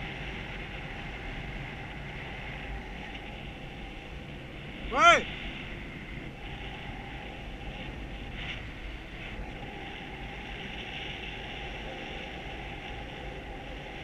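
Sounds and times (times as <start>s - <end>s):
faint steady tone: 0.0s - 14.0s.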